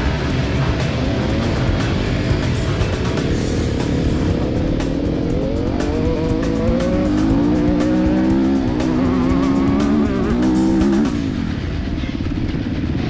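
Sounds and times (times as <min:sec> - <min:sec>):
motocross bike engine revving: 0:00.0 - 0:11.8
music: 0:00.0 - 0:13.0.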